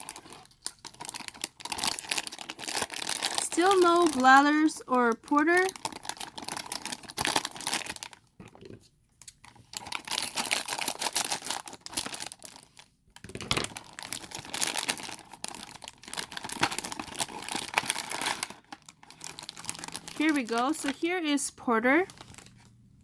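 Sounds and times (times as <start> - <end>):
packaging crinkling and tearing: 0.0 - 21.2, 22.0 - 22.8.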